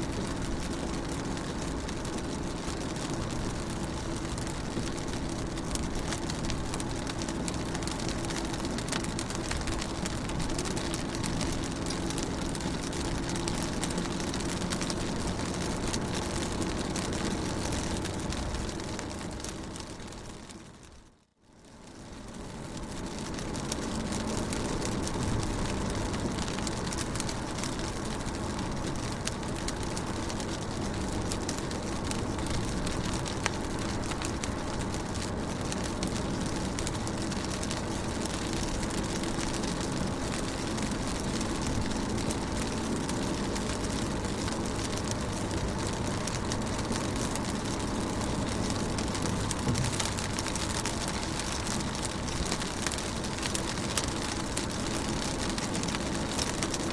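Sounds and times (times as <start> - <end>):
rain on a car: 0.0 - 56.9
raindrop ticks: 0.1 - 56.9.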